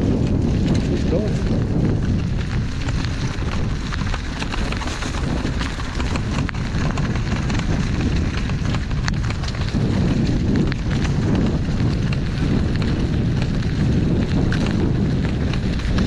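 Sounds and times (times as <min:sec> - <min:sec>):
small crackling clicks: 0:00.0 - 0:16.0
wind buffeting microphone: 0:00.0 - 0:16.0.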